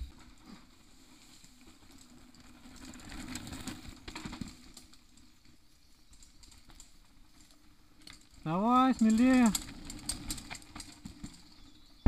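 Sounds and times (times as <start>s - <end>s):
mountain bike clicking and rattling: 0.0s - 12.0s.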